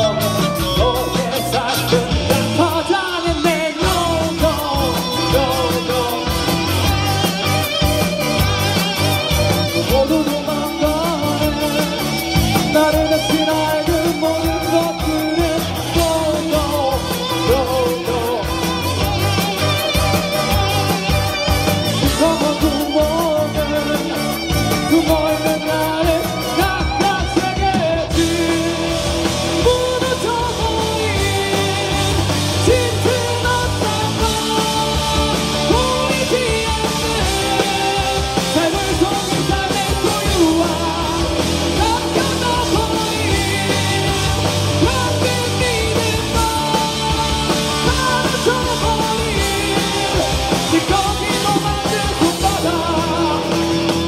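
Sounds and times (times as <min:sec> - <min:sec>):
bass guitar: 0:00.0 - 0:54.0
drum kit: 0:00.0 - 0:54.0
electric guitars: 0:00.0 - 0:54.0
lead vocal singing: 0:00.0 - 0:54.0.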